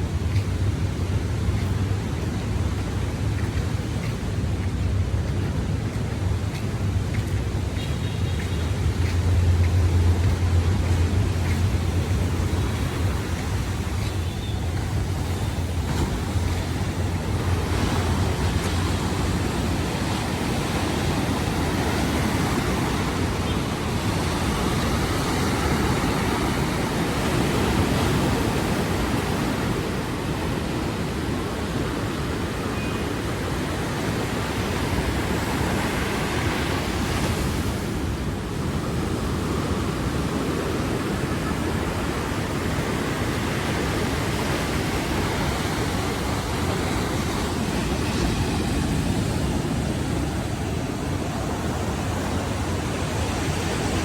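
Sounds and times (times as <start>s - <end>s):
sea surf washing on beach: 0.0s - 54.0s.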